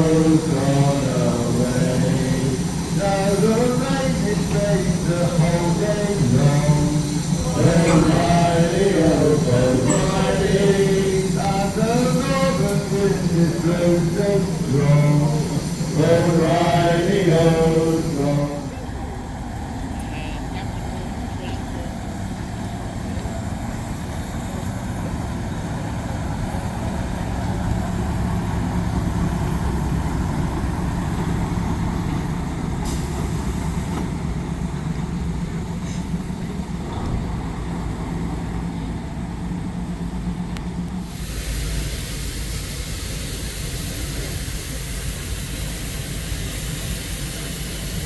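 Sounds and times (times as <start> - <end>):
diesel locomotive engine running: 0.0 - 48.0.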